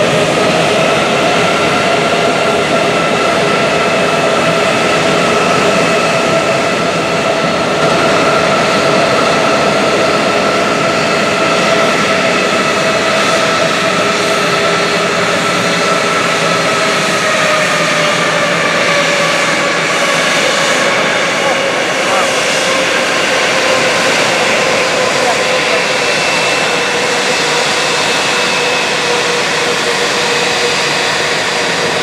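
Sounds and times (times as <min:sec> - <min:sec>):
jet engine whine and roar: 0:00.0 - 0:32.0.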